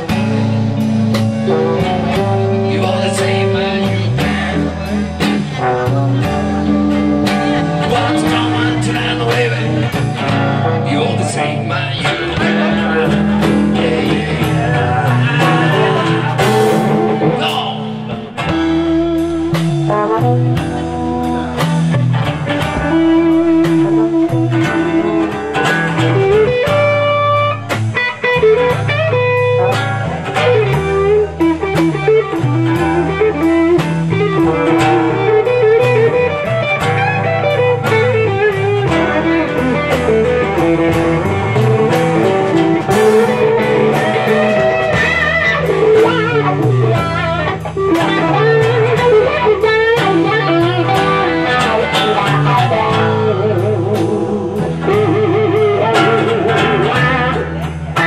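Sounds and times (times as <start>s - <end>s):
bass line: 0.0s - 58.0s
drum beat: 0.0s - 58.0s
electric guitar soloing: 0.0s - 58.0s.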